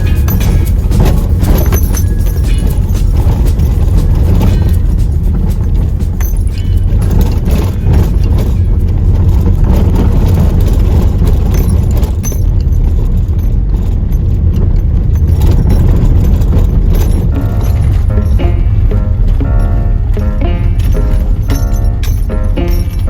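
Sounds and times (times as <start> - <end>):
light rattling and knocking: 0.0 - 23.0
vehicle rumble: 0.0 - 23.0.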